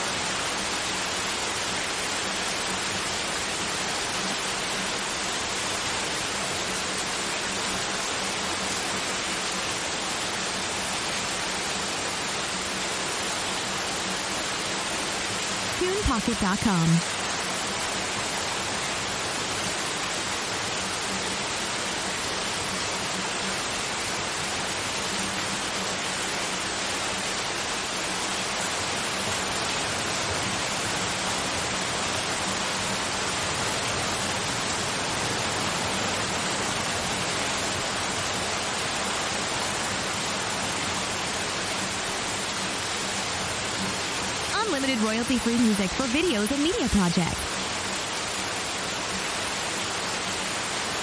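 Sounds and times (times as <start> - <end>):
steady white noise hiss: 0.0 - 51.0.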